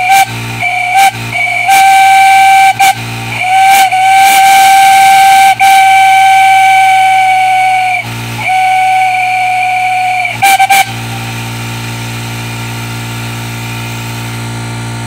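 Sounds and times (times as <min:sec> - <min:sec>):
steam whistle blasts: 0:00.0 - 0:14.6
low hum: 0:00.0 - 0:15.0.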